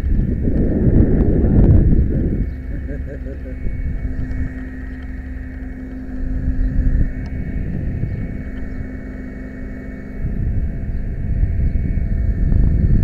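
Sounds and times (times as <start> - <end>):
low rumble: 0.0 - 13.0
mechanical hum: 0.0 - 13.0.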